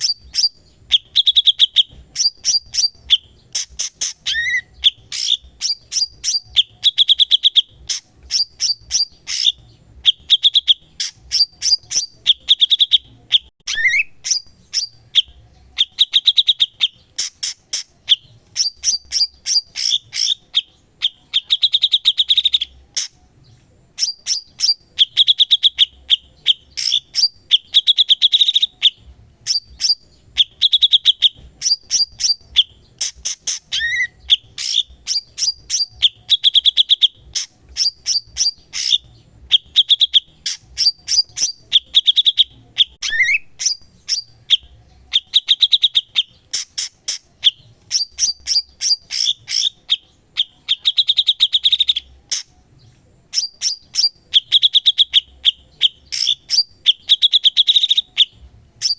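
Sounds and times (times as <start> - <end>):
bird chattering trills: 0.0 - 23.2, 23.9 - 52.5, 53.3 - 58.9.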